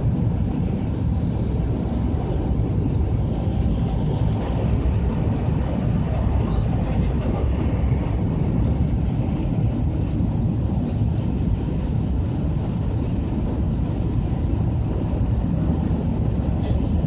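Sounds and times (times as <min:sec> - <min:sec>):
train rumble and hiss inside cabin: 0:00.0 - 0:17.0.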